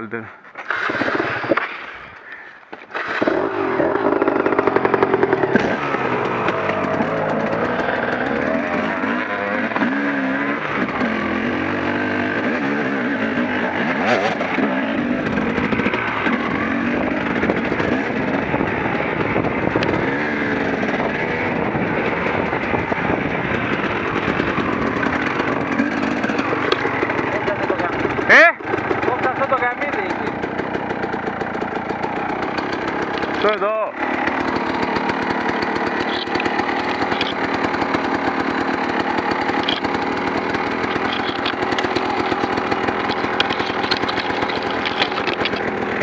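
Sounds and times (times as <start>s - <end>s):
motorcycle engine revving: 0.6s - 46.0s.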